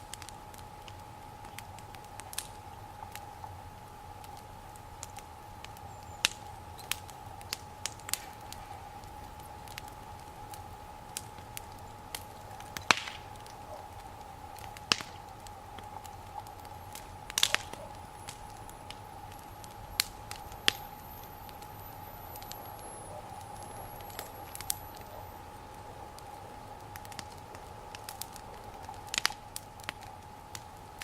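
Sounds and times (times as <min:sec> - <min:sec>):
wood fire popping and crackling: 0:00.0 - 0:31.0.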